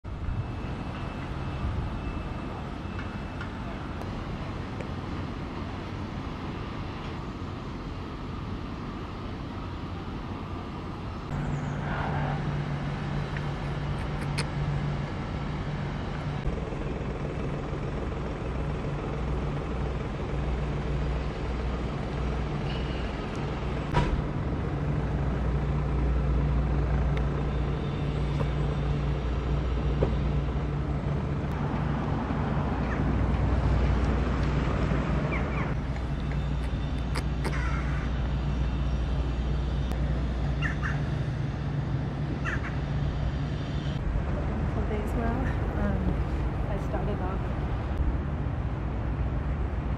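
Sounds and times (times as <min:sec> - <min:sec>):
city traffic: 0:00.0 - 0:49.9
steady low hum: 0:00.0 - 0:49.9
vehicle engine running: 0:00.0 - 0:49.9.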